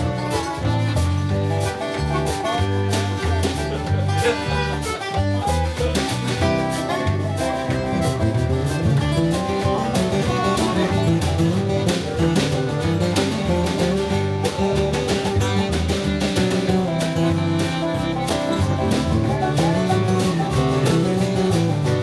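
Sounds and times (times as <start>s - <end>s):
bass line: 0.0s - 22.0s
steady beat: 0.0s - 22.0s
strummed guitar: 0.0s - 22.0s.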